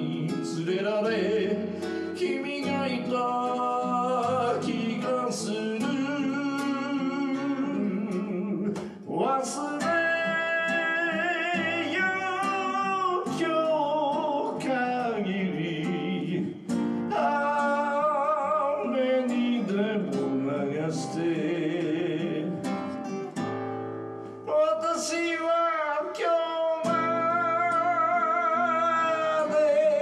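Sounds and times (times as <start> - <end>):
man singing: 0.0 - 23.2, 24.4 - 30.0
acoustic guitar: 0.0 - 30.0.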